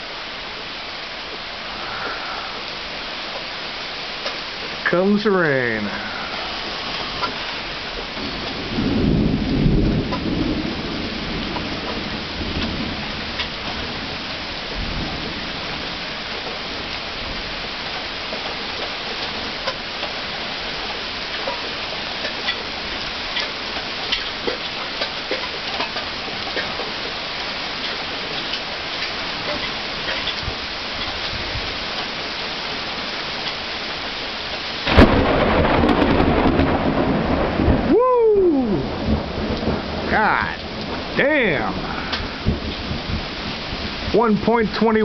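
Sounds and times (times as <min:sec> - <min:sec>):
steady rain falling: 0:00.0 - 0:45.0
thunder rumbling: 0:05.8 - 0:44.7.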